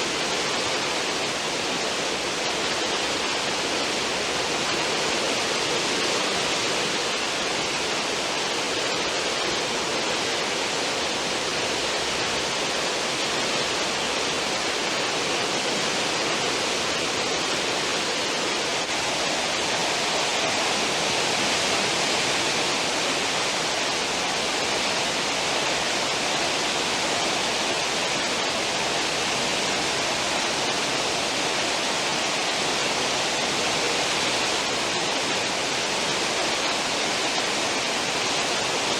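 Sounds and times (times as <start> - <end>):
churning water rushing: 0.0 - 38.9.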